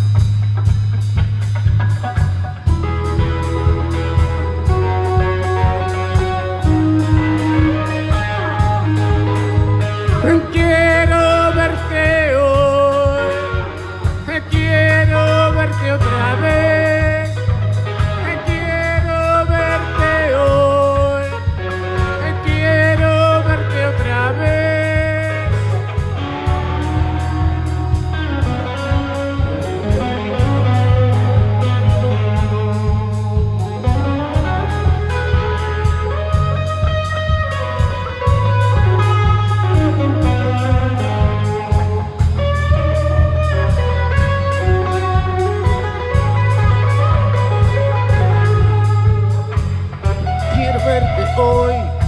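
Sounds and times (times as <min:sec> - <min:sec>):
rock band playing live: 0:00.0 - 0:52.0.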